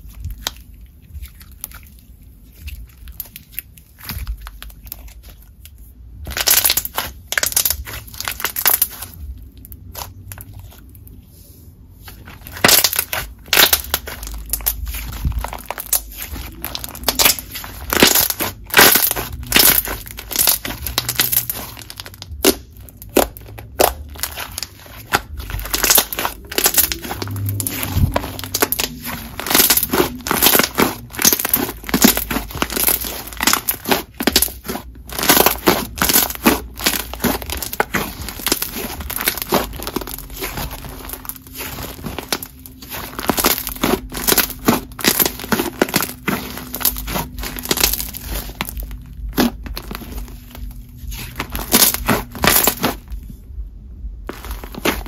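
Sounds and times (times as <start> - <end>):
slime squished by hands: 0.0 - 11.2, 11.9 - 53.4, 54.2 - 55.0.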